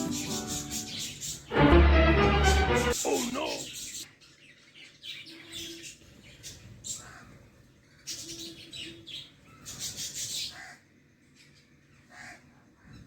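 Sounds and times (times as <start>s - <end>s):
small birds chirping: 0.0s - 1.6s, 2.8s - 13.0s.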